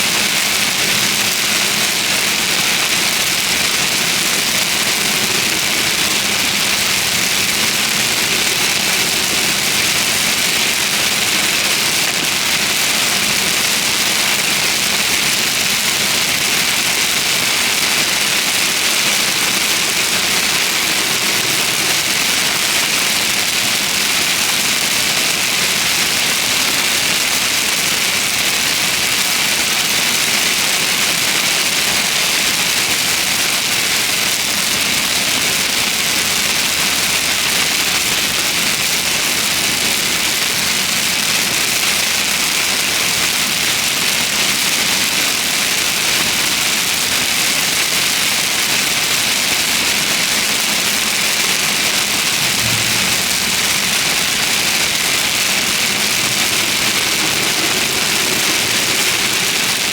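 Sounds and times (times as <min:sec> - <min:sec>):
heavy rain on a vehicle: 0:00.0 - 0:59.9.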